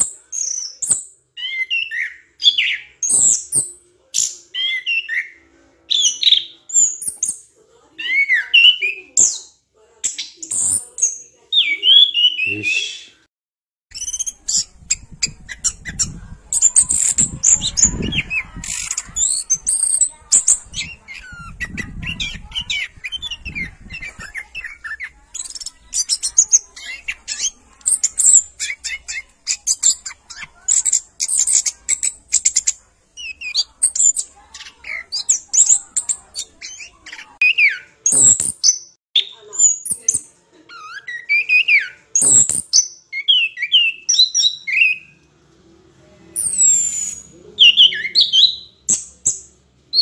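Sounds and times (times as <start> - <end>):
birds chirping: 0.0 - 13.3, 13.9 - 45.2, 46.3 - 50.0.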